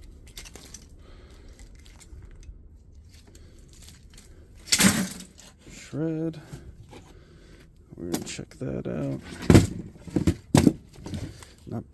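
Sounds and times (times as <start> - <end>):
plastic parts clicking and rustling: 0.0 - 5.8, 6.5 - 11.8.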